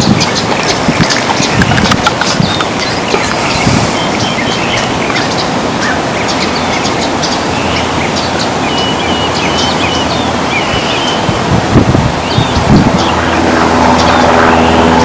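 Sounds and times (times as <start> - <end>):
small birds chirping: 0.0 - 11.5, 12.2 - 15.0
steady rushing noise: 0.0 - 15.0.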